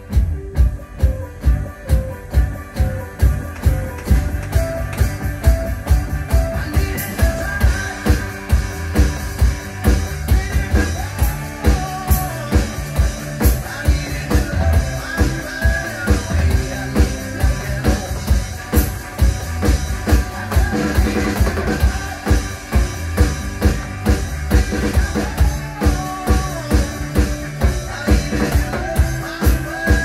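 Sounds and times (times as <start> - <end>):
electronic drum kit beat: 0.0 - 30.0
rock backing track: 0.0 - 30.0.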